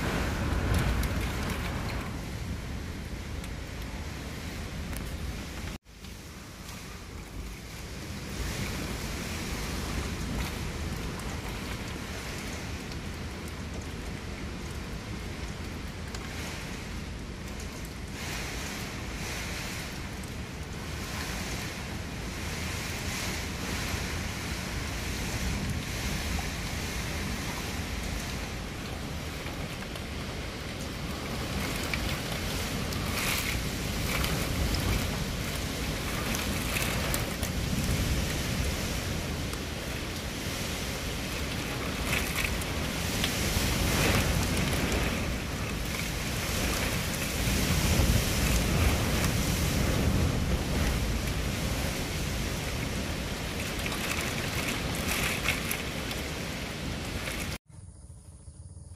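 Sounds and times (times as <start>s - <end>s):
heavy rain: 0.0s - 57.6s
strong wind: 0.0s - 58.2s.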